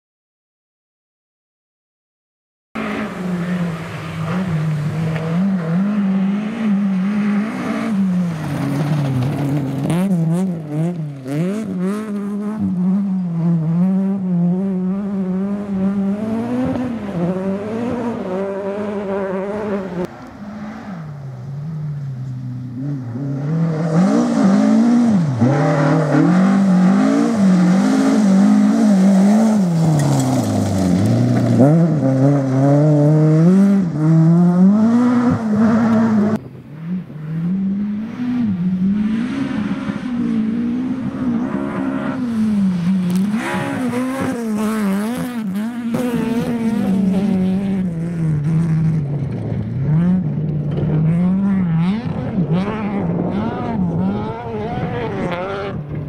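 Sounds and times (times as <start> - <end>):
rally car engines revving: 2.8 - 56.0.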